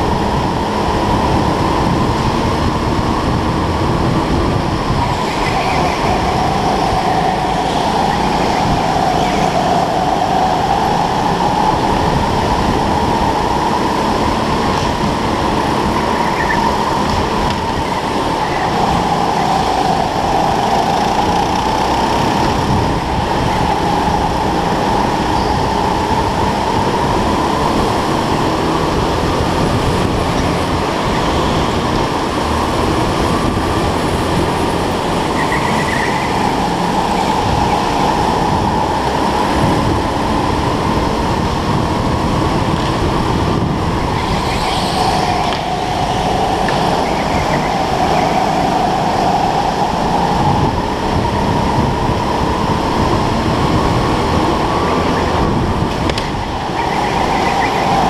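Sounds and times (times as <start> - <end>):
go-kart engine whine: 0.0 - 58.0.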